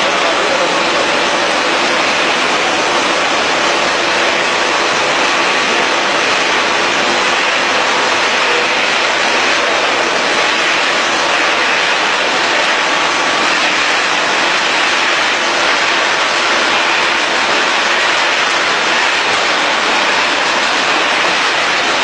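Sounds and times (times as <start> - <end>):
production line machinery running: 0.0 - 22.0.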